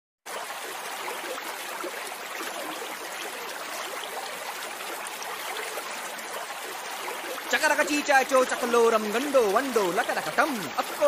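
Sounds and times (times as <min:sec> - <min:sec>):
running water: 0:00.3 - 0:11.0.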